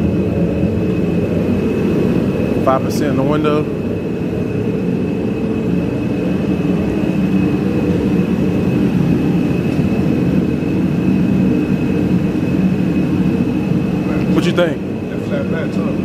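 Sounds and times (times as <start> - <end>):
machine drone: 0.0 - 16.0.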